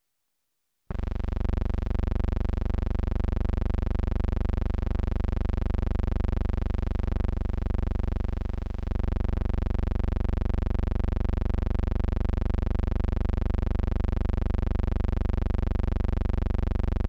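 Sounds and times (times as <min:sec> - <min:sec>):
steady electrical buzzing hum: 0:00.9 - 0:17.0.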